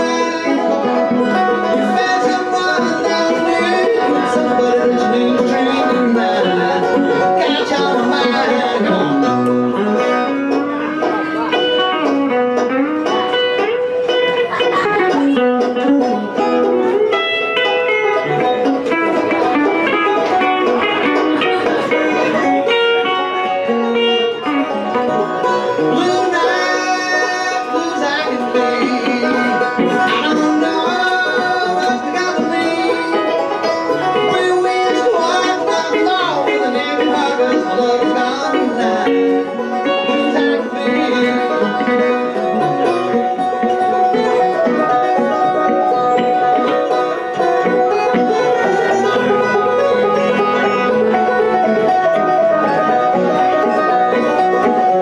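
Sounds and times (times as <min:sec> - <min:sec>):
banjo: 0:00.0 - 0:55.0
electric guitar: 0:00.0 - 0:55.0.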